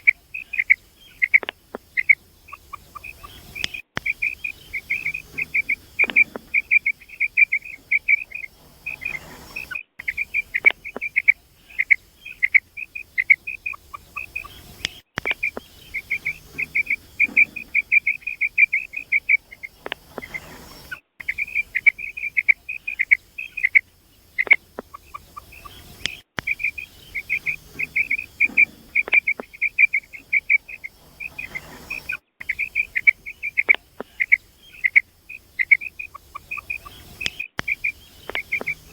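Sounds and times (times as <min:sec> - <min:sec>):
quail calling: 0:00.0 - 0:38.9.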